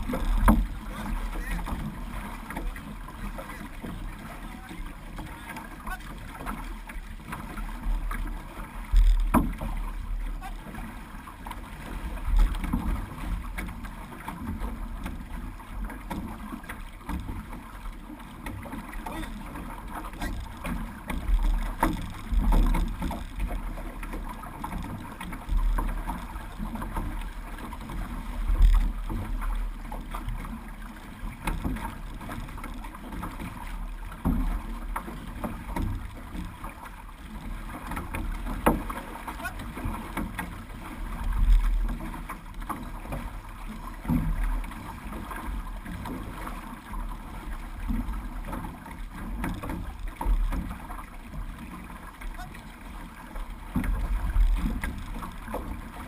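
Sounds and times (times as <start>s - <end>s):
water rushing along canoe hull: 0.0s - 56.0s.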